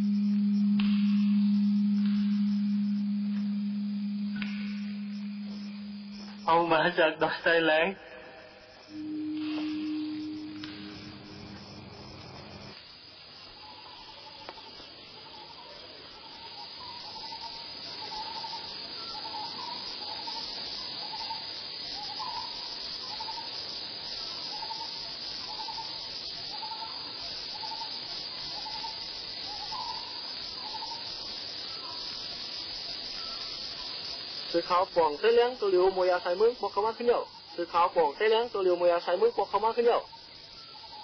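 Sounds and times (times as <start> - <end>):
insect chorus: 0.0 - 41.0.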